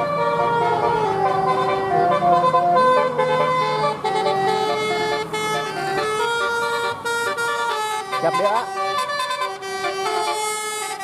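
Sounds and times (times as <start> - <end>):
multi-tone bus horn tune: 0.0 - 11.0.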